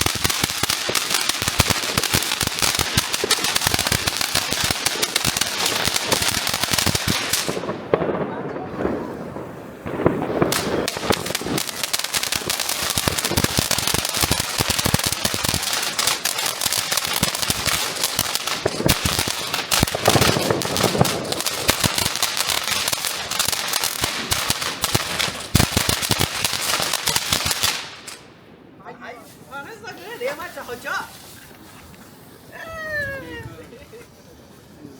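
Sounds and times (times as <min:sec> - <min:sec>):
firecrackers cracking: 0:00.0 - 0:28.4.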